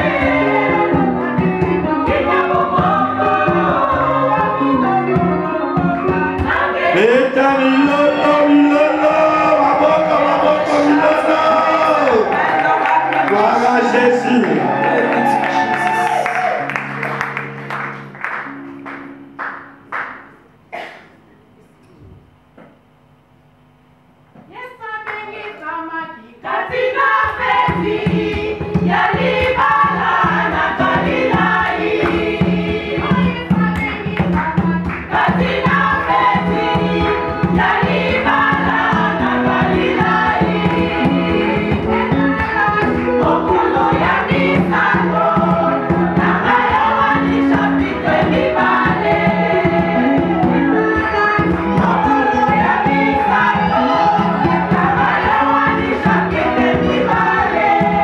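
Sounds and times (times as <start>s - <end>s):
steady beat: 0.0s - 16.6s, 26.9s - 58.0s
women's choir singing gospel: 0.0s - 17.6s, 26.4s - 58.0s.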